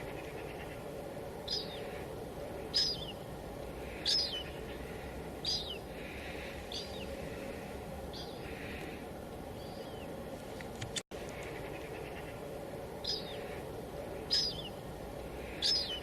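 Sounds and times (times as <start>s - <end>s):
low background hiss: 0.0s - 16.0s.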